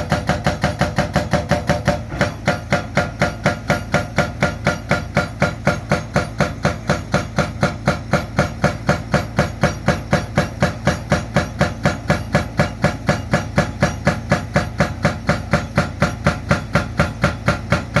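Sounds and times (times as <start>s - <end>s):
hydraulic breaker hammering concrete: 0.0s - 18.0s.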